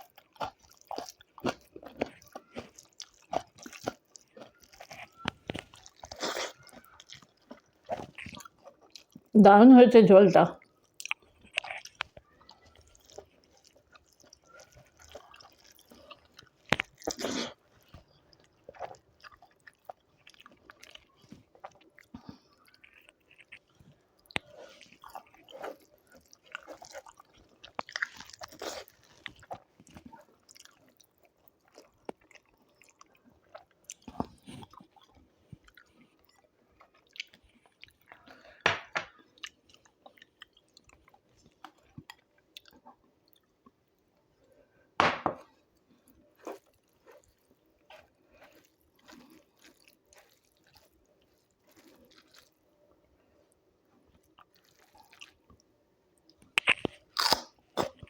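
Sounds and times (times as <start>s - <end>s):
person chewing food: 0.0s - 9.3s, 10.6s - 58.0s.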